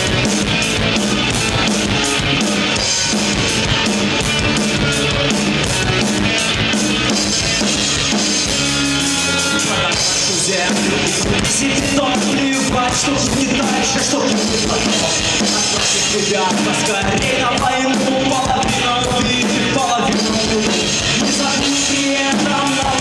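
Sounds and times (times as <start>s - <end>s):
bass guitar: 0.0s - 23.0s
drum kit: 0.0s - 23.0s
electric guitars: 0.0s - 23.0s.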